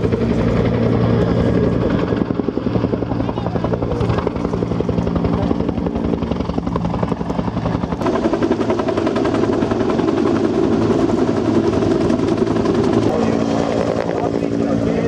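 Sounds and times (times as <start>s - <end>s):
helicopter rotor beating: 0.0s - 15.0s.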